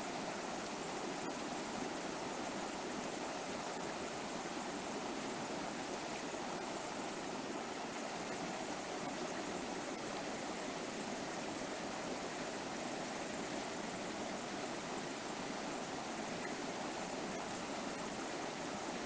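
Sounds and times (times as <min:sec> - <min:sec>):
river water flowing over rocks: 0:00.0 - 0:19.0.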